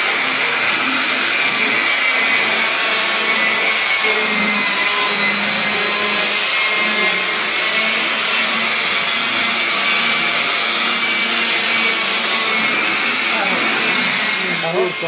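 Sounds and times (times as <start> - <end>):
electric polisher motor whine: 0.0 - 15.0.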